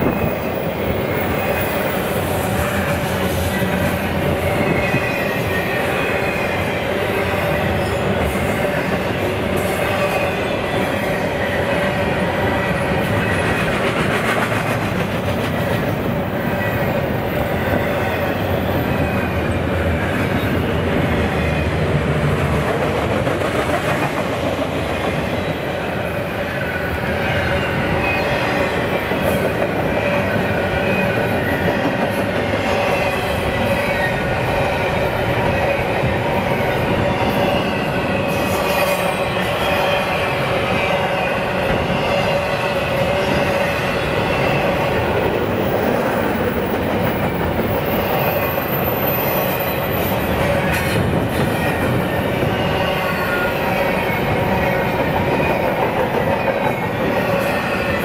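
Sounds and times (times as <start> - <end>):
high wheel squeal: 0.0 - 13.8, 25.3 - 58.0
train wheels rumbling on rails: 0.0 - 58.0.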